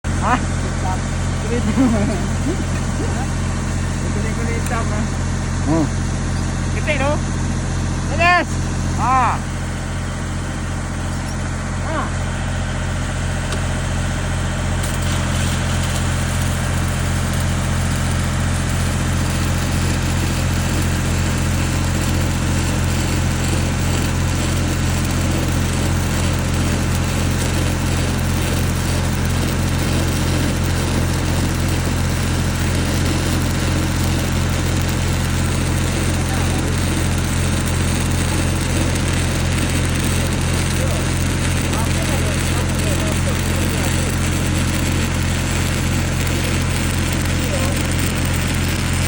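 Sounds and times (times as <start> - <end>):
welding machine hum: 0.0 - 49.0
welding arc crackling hiss: 0.1 - 49.0.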